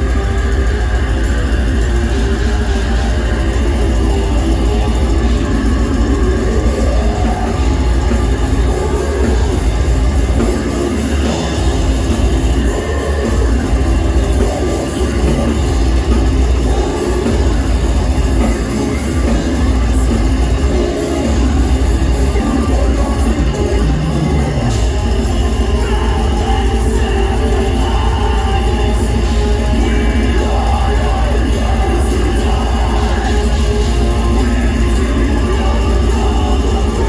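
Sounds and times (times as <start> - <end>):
live metal band playing loudly: 0.0 - 37.0.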